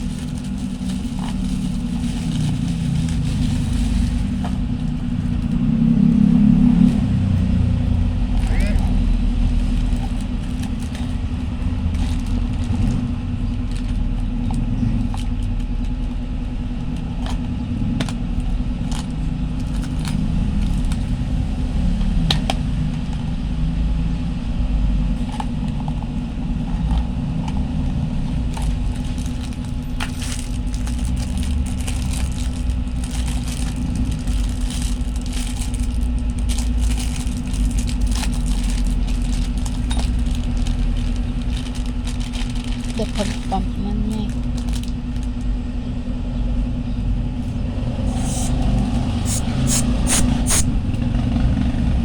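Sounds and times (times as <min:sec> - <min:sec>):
low rumble: 0:00.0 - 0:52.0.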